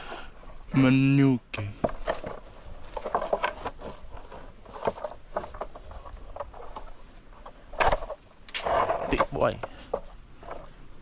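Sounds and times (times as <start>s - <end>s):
rustling leaves: 0.0s - 11.0s.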